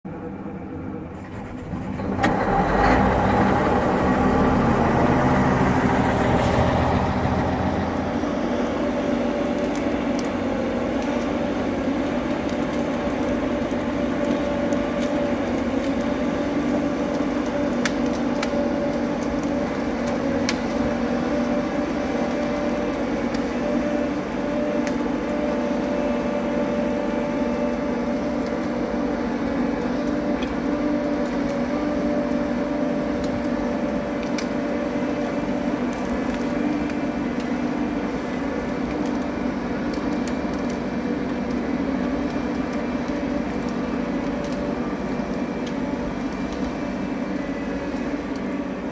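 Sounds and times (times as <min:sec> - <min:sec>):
diesel engine running: 0:00.1 - 0:48.9.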